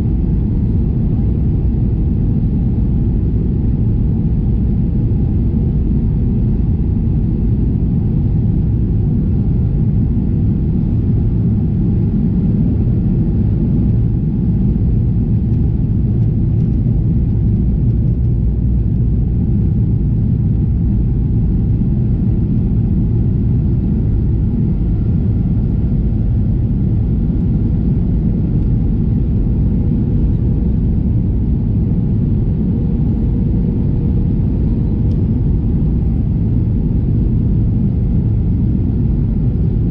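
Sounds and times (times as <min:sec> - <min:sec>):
airplane cabin rumble: 0:00.0 - 0:39.9
faint steady whine: 0:00.0 - 0:39.9.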